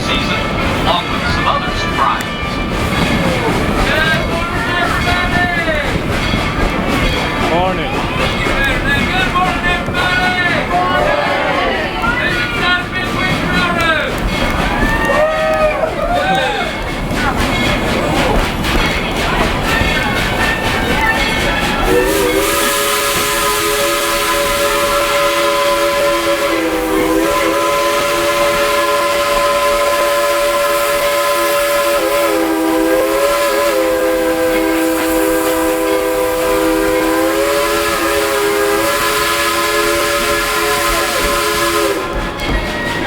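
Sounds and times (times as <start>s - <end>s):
steam locomotive chime whistle: 0.0s - 43.0s.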